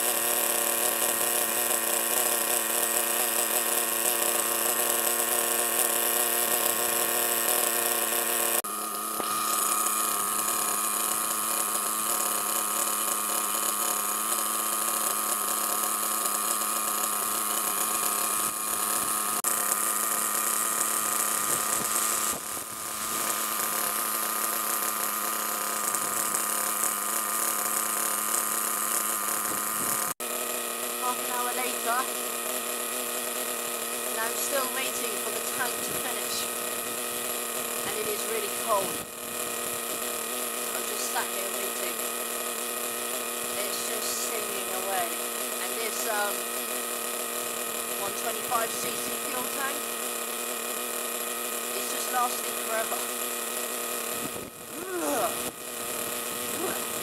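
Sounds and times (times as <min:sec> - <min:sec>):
rc buggy nitro engine buzzing: 0:00.0 - 0:57.0.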